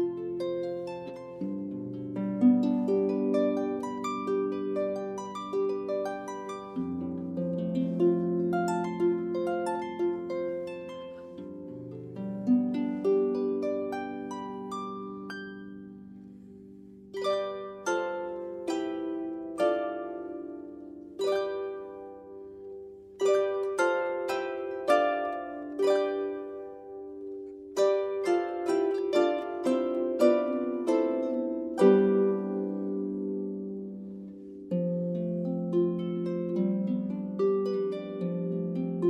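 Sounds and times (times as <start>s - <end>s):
solo harp music: 0.0s - 39.0s.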